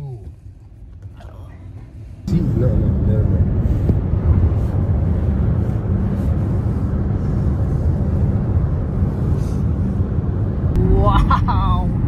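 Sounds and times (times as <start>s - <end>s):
car road noise and engine drone: 0.0s - 12.0s.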